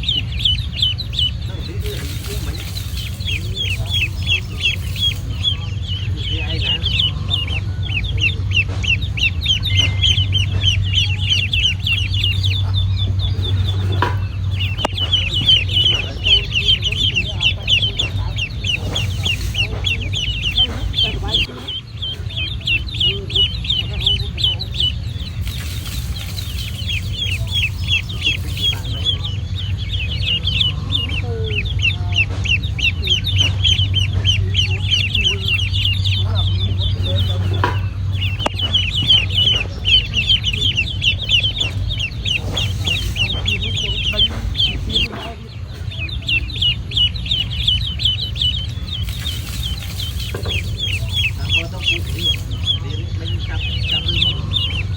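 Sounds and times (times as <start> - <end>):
ducklings peeping: 0.0 - 54.9
steady low hum: 0.0 - 54.9.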